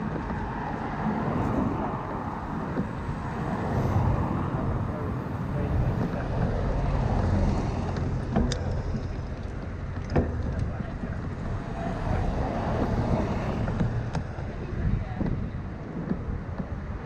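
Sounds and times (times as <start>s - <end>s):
street traffic: 0.0s - 17.0s
wind rumbling on microphone: 0.0s - 17.0s.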